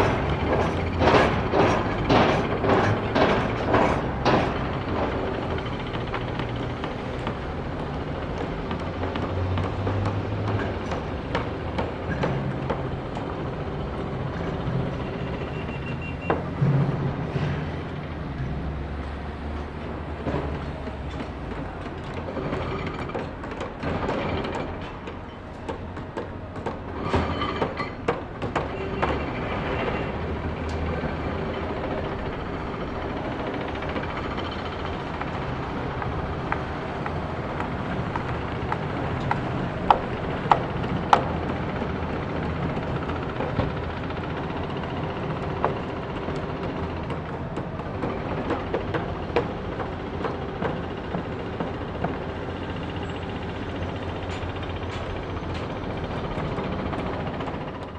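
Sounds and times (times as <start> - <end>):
metal knocks and clanks: 0.0 - 57.6
heavy machine engine running: 0.0 - 57.9.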